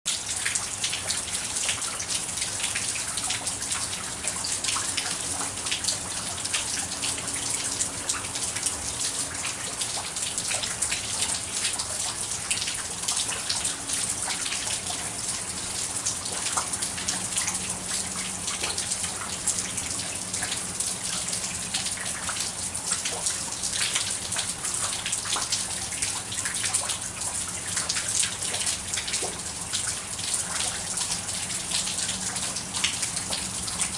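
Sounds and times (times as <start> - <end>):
raindrops spattering: 0.1 - 33.9
steady rain: 0.1 - 33.9.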